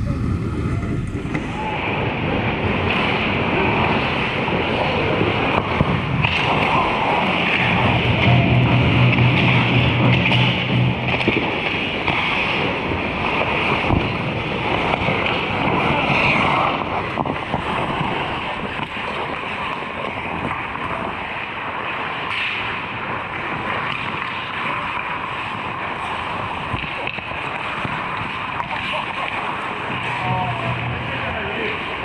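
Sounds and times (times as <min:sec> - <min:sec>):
hockey rink ambience: 0:00.0 - 0:32.0.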